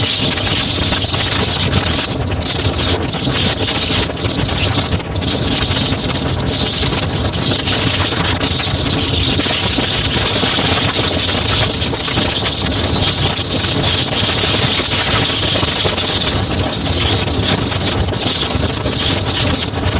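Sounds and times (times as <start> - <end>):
motorcycle engine running: 0.0 - 19.9
wind and road rush: 0.0 - 19.9.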